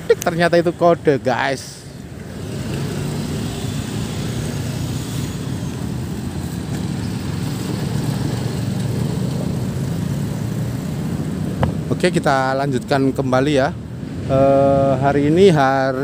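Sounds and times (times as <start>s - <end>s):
traffic engine drone: 0.0s - 16.0s
tyres hissing on road: 0.0s - 16.0s.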